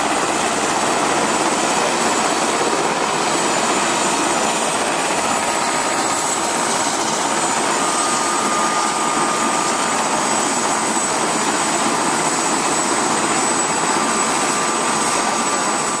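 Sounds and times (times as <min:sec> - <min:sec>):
helicopter running: 0:00.0 - 0:16.0.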